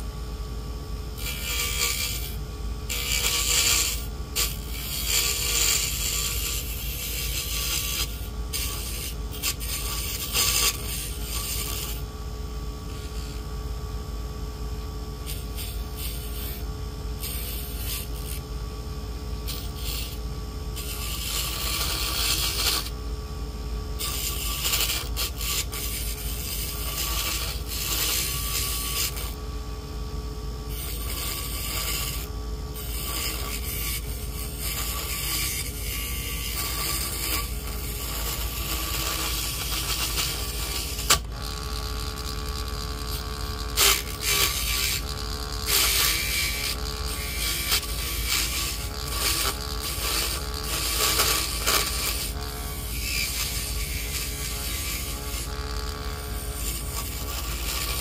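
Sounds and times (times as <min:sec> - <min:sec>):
small lathe motor running: 0:00.0 - 0:58.0
tool scraping spinning wood: 0:01.0 - 0:13.6, 0:14.8 - 0:58.0.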